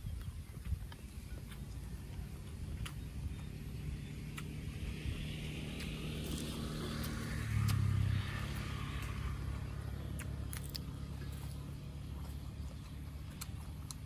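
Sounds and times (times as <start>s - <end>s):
motor engine humming: 0.0s - 14.0s.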